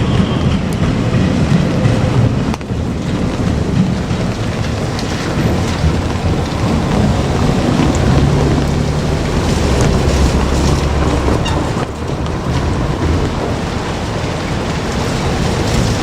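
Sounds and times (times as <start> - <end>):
electric train rumbling past: 0.0 - 16.0
wind buffeting microphone: 0.0 - 16.0.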